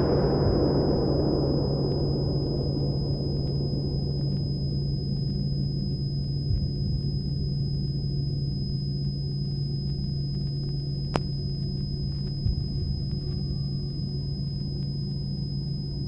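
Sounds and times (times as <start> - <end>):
low soundtrack drone: 0.0 - 16.0
thin high whine: 0.0 - 16.0.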